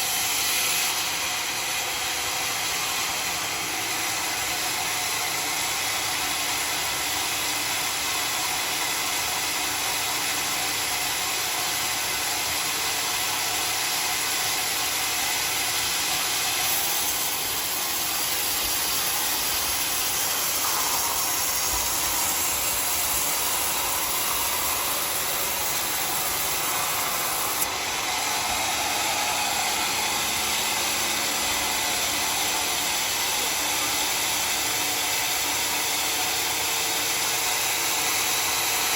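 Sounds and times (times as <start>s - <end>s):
sawmill sawing wood: 0.0s - 38.9s.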